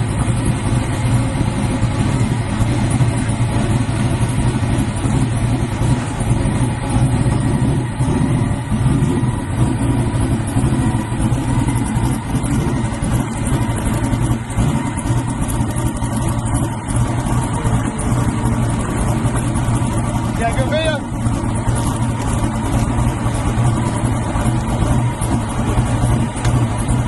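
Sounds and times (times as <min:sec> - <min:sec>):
loud engine idling: 0:00.0 - 0:27.0.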